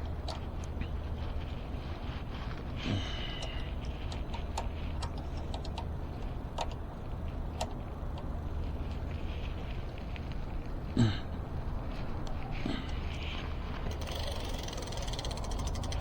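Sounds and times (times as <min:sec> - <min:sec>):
bike wheel ticking and rubbing: 0:00.0 - 0:16.0.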